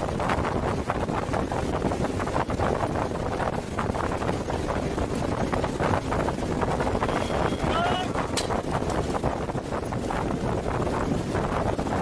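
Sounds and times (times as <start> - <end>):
aircraft engines and rushing air: 0.0 - 12.0
wind buffeting microphone: 0.0 - 12.0.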